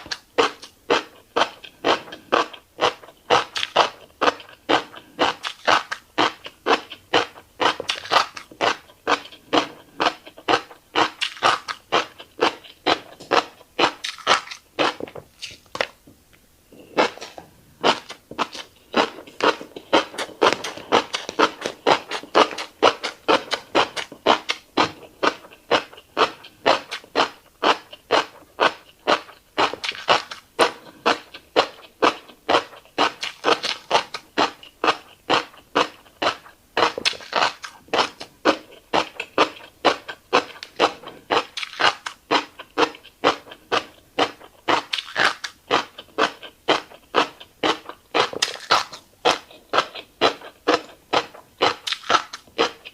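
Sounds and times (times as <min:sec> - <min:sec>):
close chewing: 0:00.0 - 0:16.0, 0:16.7 - 0:52.9.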